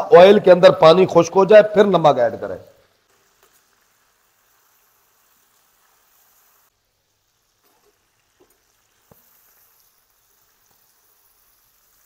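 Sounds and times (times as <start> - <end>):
chicken sizzling in hot oil: 1.8 - 12.0.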